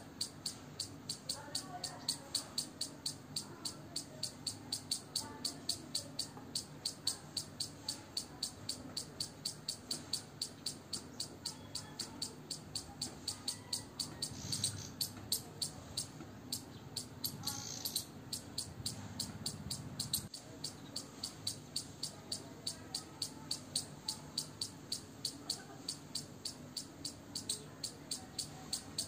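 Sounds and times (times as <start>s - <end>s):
squirrel chirping: 0.0s - 29.0s.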